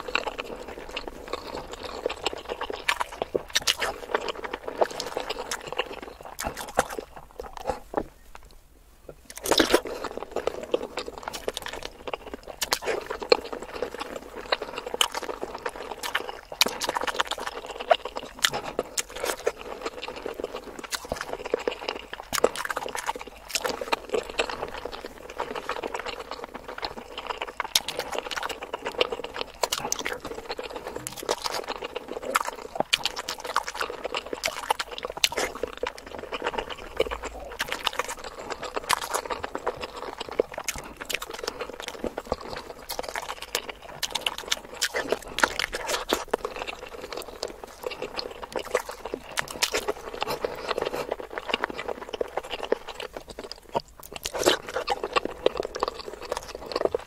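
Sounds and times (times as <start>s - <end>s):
wet chewing and mouth smacks: 0.0s - 57.0s.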